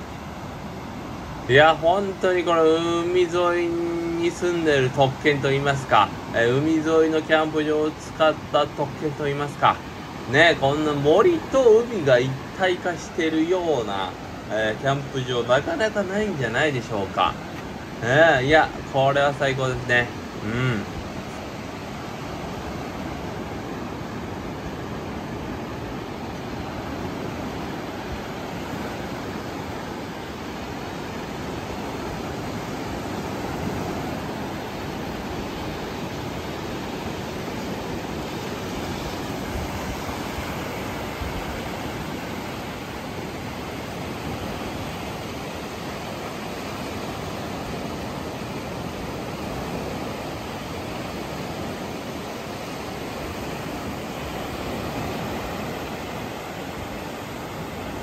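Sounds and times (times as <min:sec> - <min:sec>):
waves rushing on a beach: 0:00.0 - 0:58.0.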